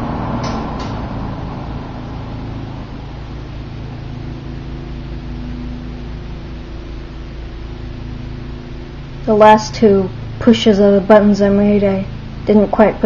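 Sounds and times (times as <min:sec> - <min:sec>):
box fan running: 0:00.0 - 0:13.0.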